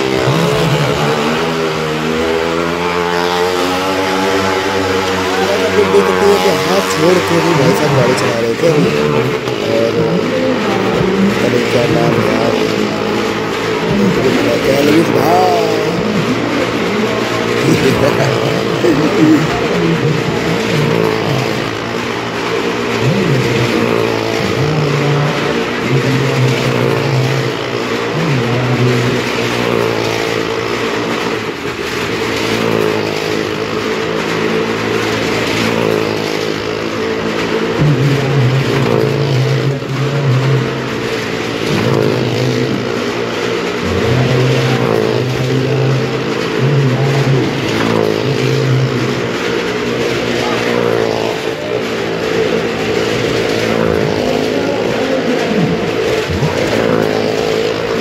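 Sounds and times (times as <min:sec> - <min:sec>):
stunt vehicle engines revving: 0:00.0 - 0:58.0.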